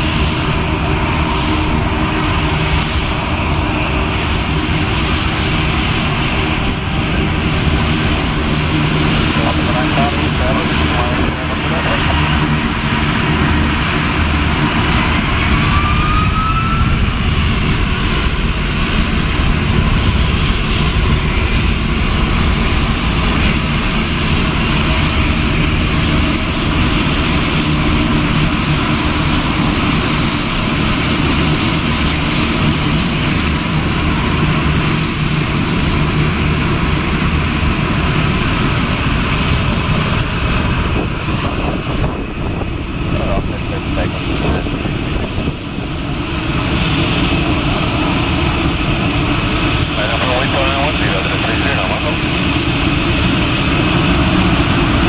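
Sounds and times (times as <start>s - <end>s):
turboprop aircraft engines droning: 0.0s - 55.0s.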